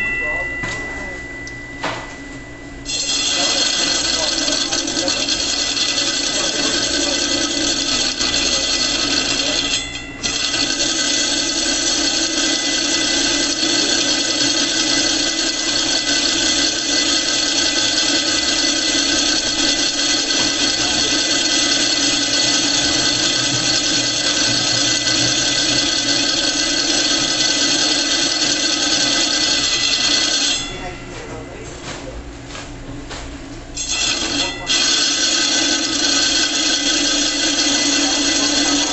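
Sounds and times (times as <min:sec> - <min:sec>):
blade grinding screech: 0:02.9 - 0:30.8, 0:33.8 - 0:38.9.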